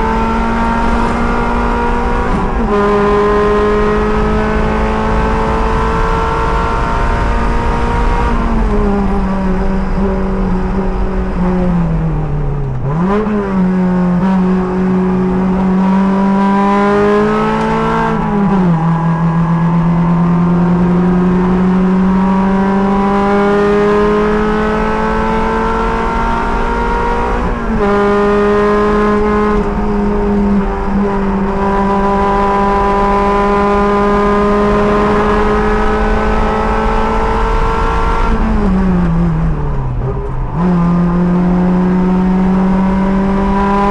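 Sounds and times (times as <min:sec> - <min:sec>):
sports car engine revving: 0:00.0 - 0:43.9.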